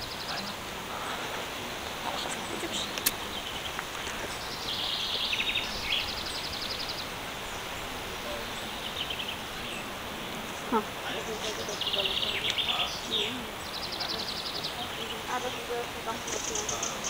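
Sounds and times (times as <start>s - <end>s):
outdoor background hiss: 0.0s - 17.0s
small birds trilling: 0.0s - 17.0s.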